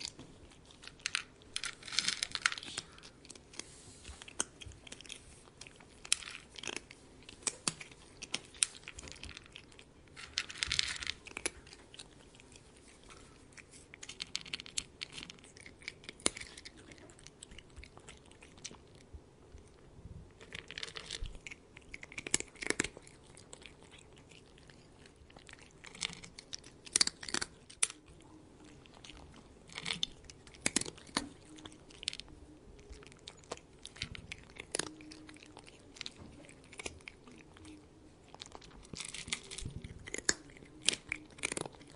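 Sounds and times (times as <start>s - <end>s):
cat chewing and crunching food: 0.0s - 41.9s.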